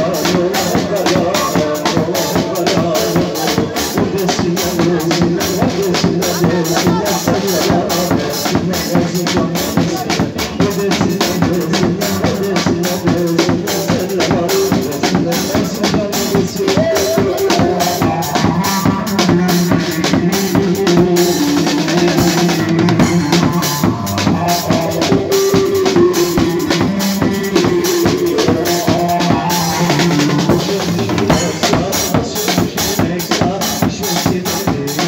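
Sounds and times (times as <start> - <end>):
drum kit playing rhythm: 0.0 - 35.0.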